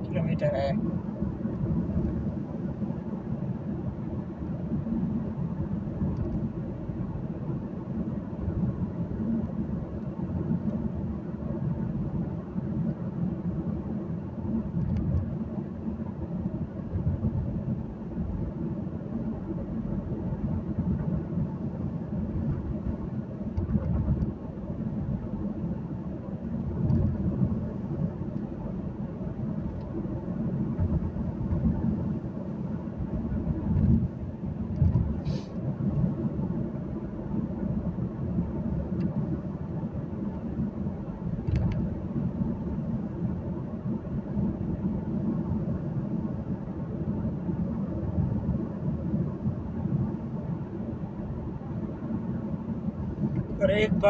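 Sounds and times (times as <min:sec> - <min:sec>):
car cabin engine and road noise: 0:00.0 - 0:54.0.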